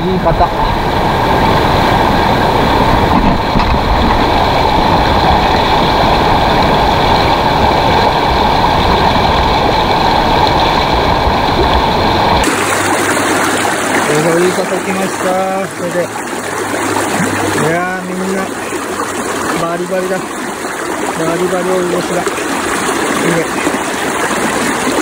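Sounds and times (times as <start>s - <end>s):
river rapid rushing: 0.0s - 25.0s.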